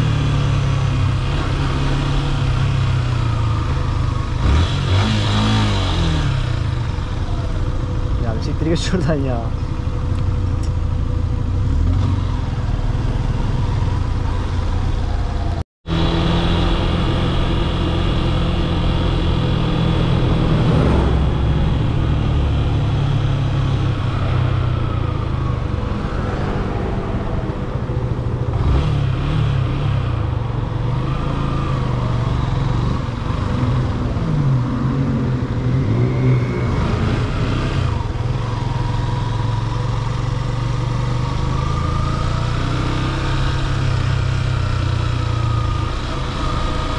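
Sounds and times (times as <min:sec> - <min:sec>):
motorcycle engine revving: 0:00.0 - 0:08.6, 0:09.5 - 0:46.9.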